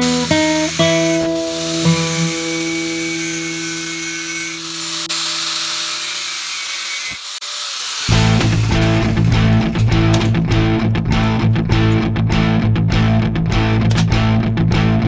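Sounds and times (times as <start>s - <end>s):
guitar music: 0.0s - 6.0s, 8.1s - 15.0s.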